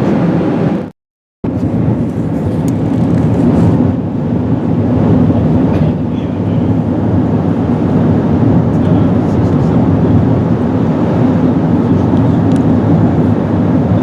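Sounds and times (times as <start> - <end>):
airplane cabin low rumble: 0.0 - 14.0.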